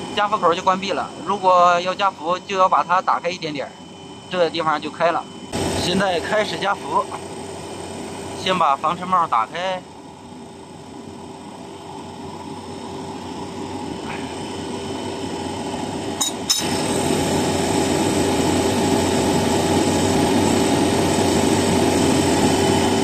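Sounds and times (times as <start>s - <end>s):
compressor humming: 0.0s - 23.0s.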